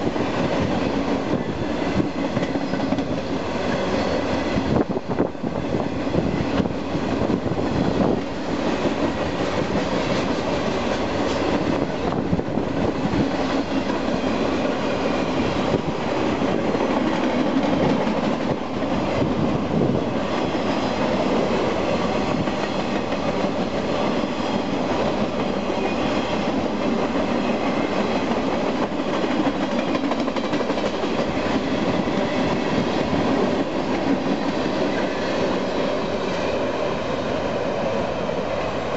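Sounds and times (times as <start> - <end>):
train wheels rolling on rails: 0.0 - 38.9.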